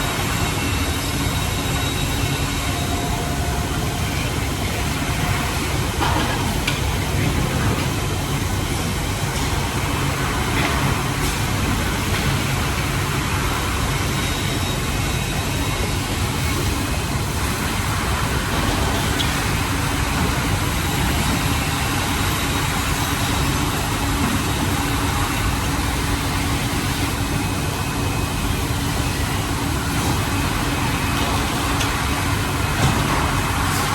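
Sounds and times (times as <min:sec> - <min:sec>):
constant machine hum: 0:00.0 - 0:33.9.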